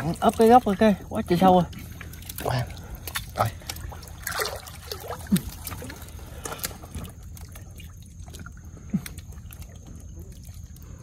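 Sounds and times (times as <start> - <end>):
shallow water splashing and trickling: 0.0 - 11.0.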